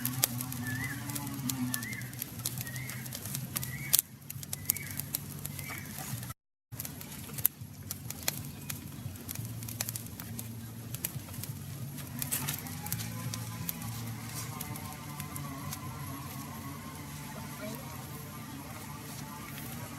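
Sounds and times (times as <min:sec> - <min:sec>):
crackling and sharp clicks: 0:00.0 - 0:19.9
low steady drone: 0:00.0 - 0:19.9.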